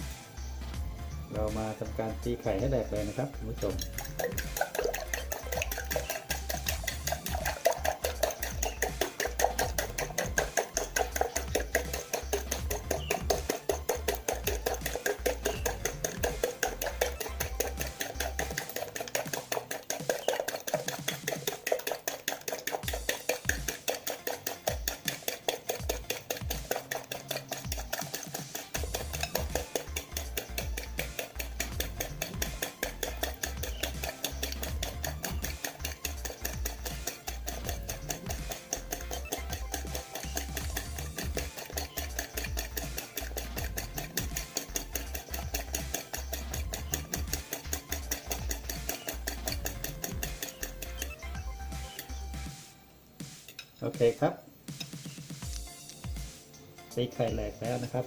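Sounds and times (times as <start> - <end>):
utensil beating eggs in bowl: 0.8 - 52.6, 57.0 - 58.0.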